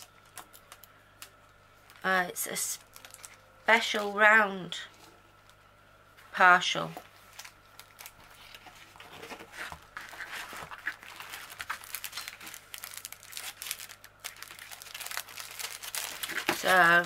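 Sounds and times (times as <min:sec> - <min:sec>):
plastic and paper packaging crinkling: 0:00.0 - 0:04.2, 0:07.0 - 0:17.0.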